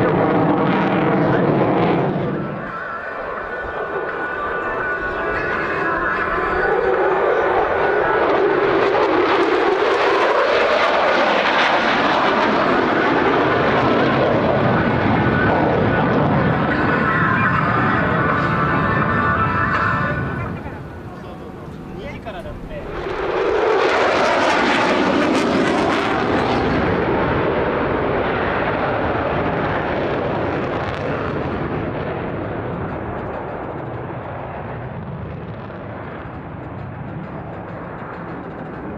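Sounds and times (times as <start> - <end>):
jet engine noise: 0.0 - 38.9.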